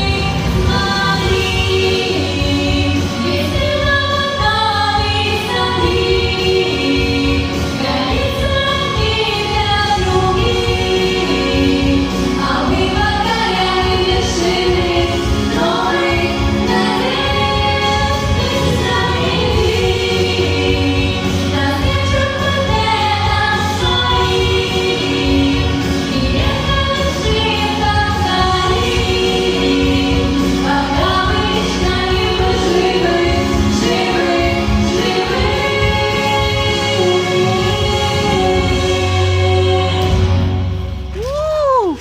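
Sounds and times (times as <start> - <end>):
voices singing together: 0.0 - 40.7
backing track: 0.0 - 42.0.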